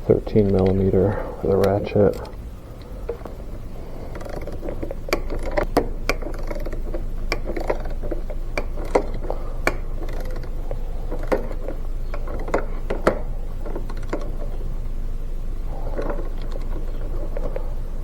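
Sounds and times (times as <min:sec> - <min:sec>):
steady low hum: 0:00.0 - 0:18.0
socket ratchet clicking: 0:00.1 - 0:14.6.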